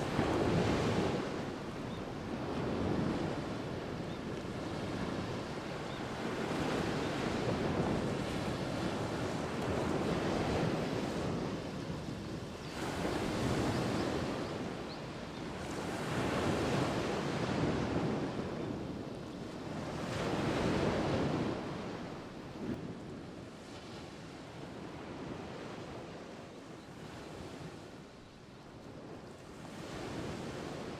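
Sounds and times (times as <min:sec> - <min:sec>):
ocean waves breaking on shore: 0:00.0 - 0:30.9.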